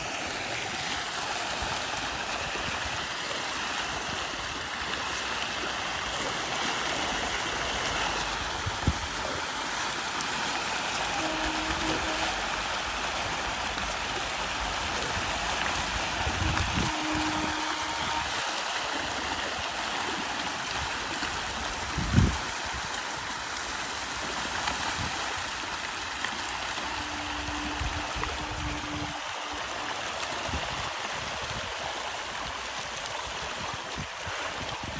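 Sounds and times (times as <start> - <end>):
pond water rushing and splashing: 0.0 - 34.9.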